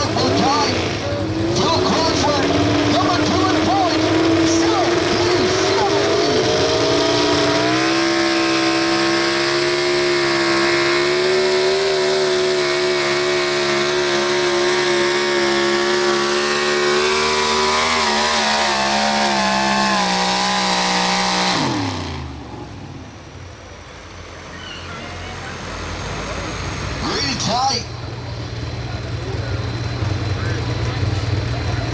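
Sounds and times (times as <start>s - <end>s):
truck engine at high revs: 0.0s - 31.9s.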